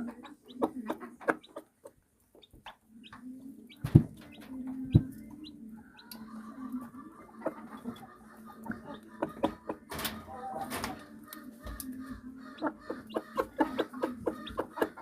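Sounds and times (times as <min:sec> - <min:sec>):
chicken clucking: 0:00.0 - 0:15.0.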